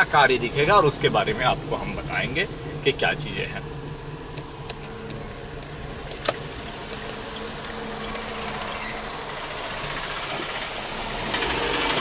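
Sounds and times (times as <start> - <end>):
buzzing auto-rickshaw engine: 0.0 - 12.0
car engine and road noise: 0.0 - 12.0.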